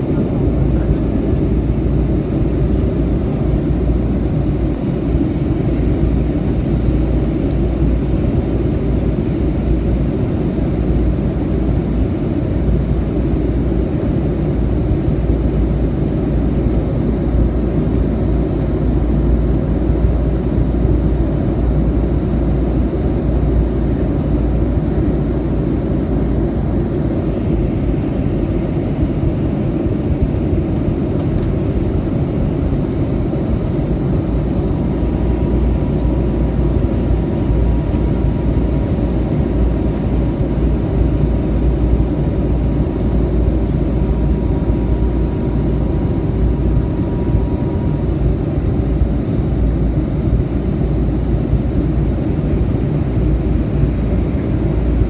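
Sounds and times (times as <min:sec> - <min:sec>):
aircraft cabin engine noise: 0:00.0 - 0:55.0.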